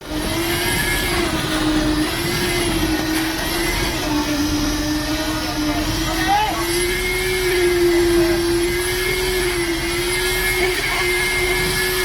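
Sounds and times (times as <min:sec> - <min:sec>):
machine motor droning: 0:00.0 - 0:12.0.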